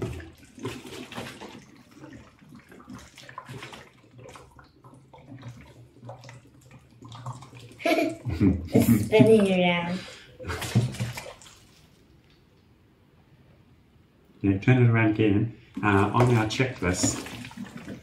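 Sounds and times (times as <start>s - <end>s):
water swirling and draining: 0.0s - 12.1s, 15.6s - 18.0s.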